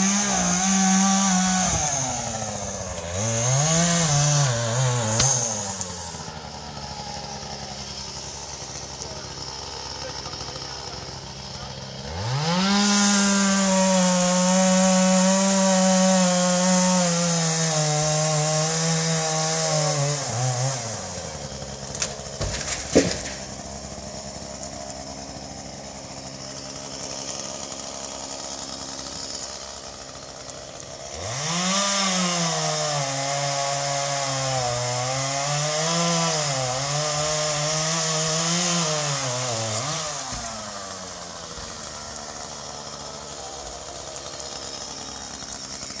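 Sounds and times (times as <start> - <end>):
chainsaw running and cutting: 0.0 - 46.0.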